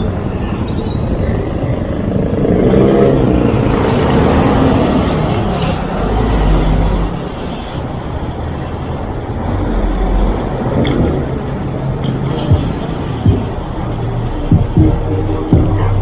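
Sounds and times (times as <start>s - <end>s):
street noise roar: 0.0s - 16.0s
vehicles passing close by: 0.0s - 16.0s
low engine rumble: 3.1s - 16.0s.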